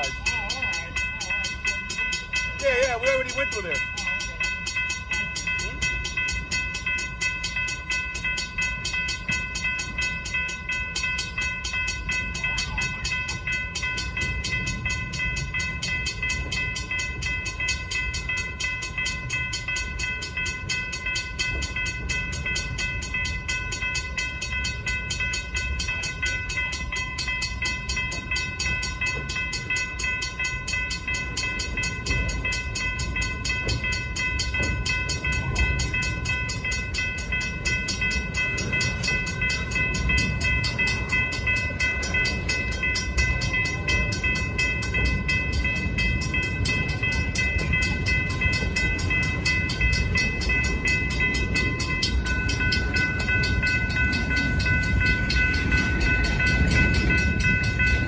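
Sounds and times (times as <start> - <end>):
crossing warning bell ringing: 0.0 - 58.0
freight train rumble: 0.0 - 58.0.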